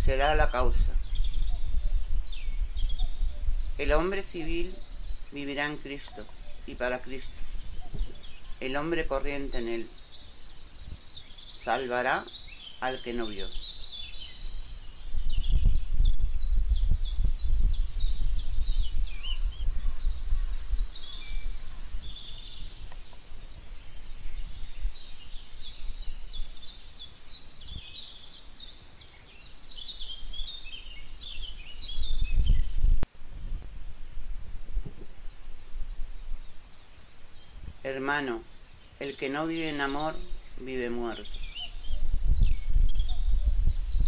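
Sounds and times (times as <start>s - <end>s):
birds chirping and trilling: 0.0s - 33.6s, 34.4s - 44.0s.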